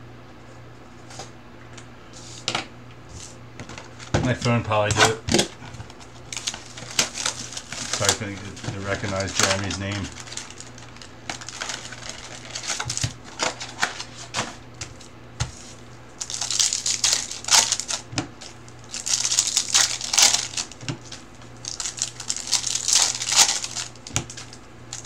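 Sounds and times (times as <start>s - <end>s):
foil wrappers crinkling: 3.2s - 25.0s.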